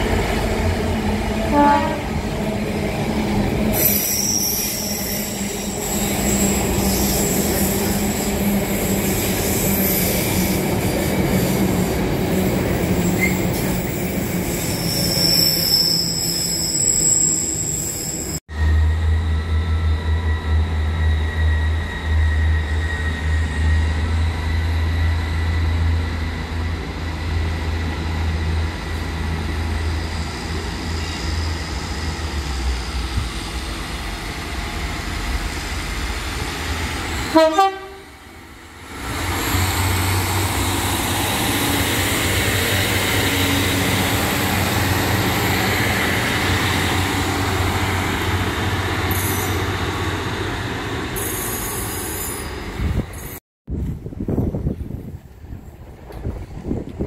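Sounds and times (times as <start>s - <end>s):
train rumbling: 0.0s - 57.0s
train rushing past: 0.0s - 57.0s.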